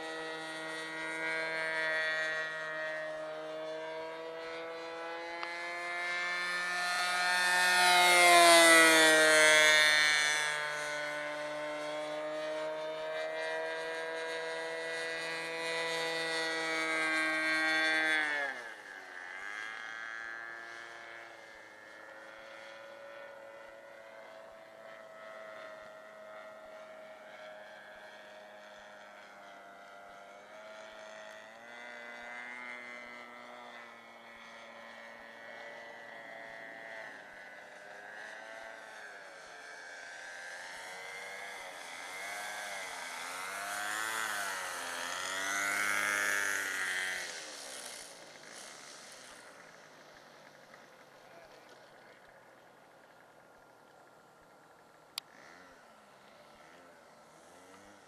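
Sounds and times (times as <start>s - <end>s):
model airplane engine droning: 0.0s - 58.0s.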